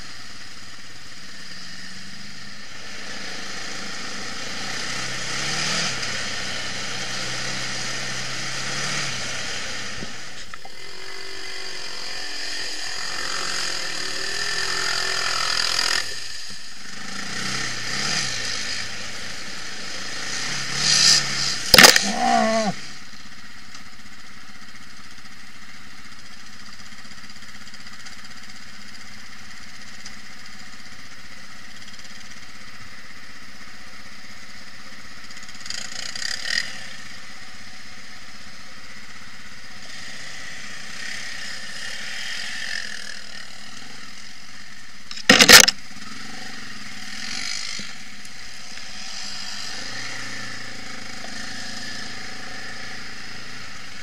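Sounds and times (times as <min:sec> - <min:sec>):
quad bike engines running: 0:00.0 - 0:54.0.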